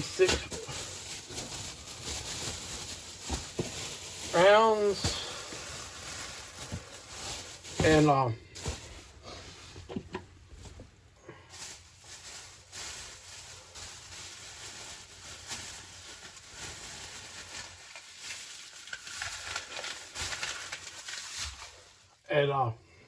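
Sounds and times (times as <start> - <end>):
packaging crinkling: 0.0 - 22.1
packaging rustling: 0.0 - 22.1.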